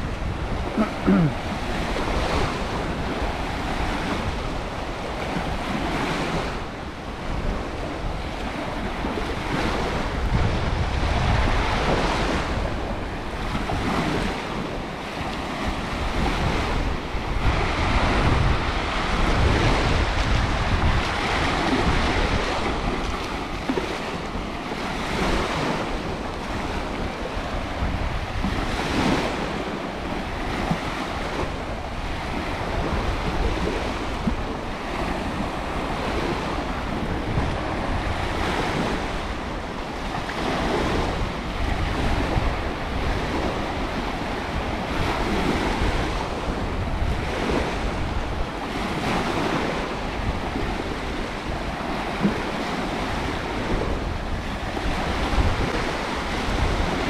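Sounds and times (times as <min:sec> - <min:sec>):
sea waves on sandy beach: 0:00.0 - 0:57.0
wind buffeting microphone: 0:00.0 - 0:57.0.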